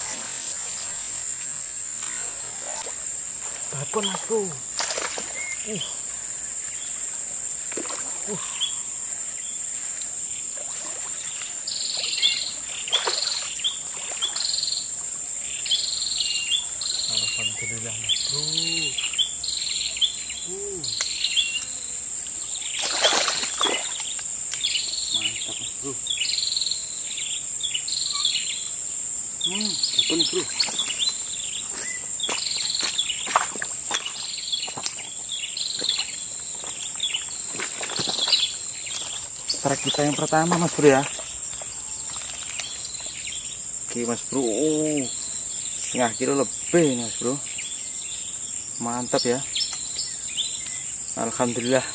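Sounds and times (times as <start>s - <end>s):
birds chirping: 0.0s - 51.9s
high-pitched insect drone: 0.0s - 51.9s.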